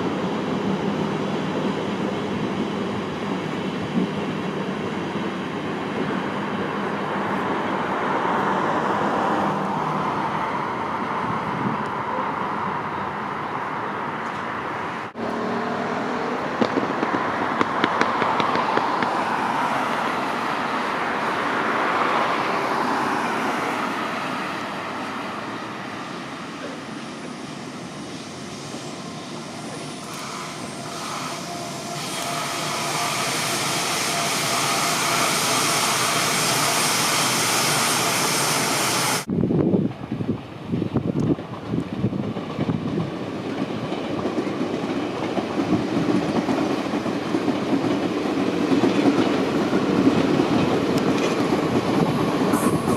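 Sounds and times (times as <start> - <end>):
train on tracks: 0.0 - 52.9.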